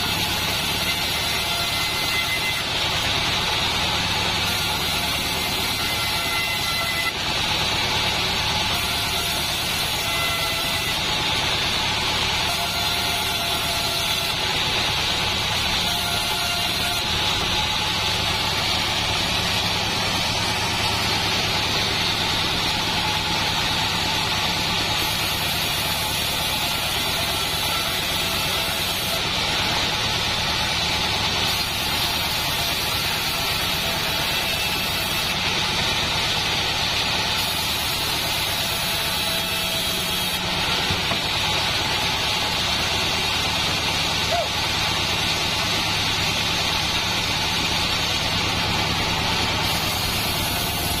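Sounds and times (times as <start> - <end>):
bandsaw mill motor droning: 0.0 - 51.0.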